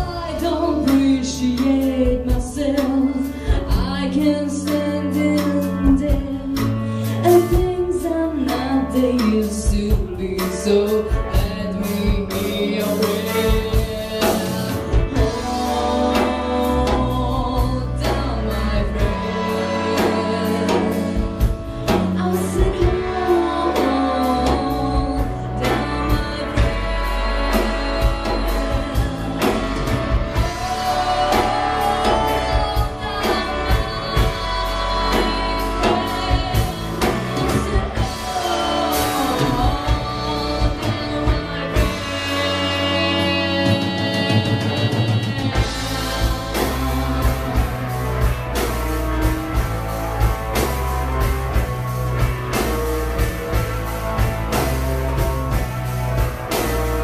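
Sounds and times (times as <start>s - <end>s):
live band with singing: 0.0s - 57.0s
regular drum beat: 0.0s - 57.0s.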